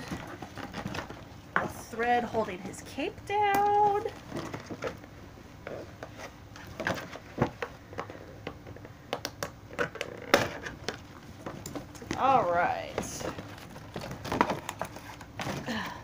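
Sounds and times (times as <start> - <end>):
packaging rustling and scraping: 0.0 - 8.9, 9.7 - 16.0.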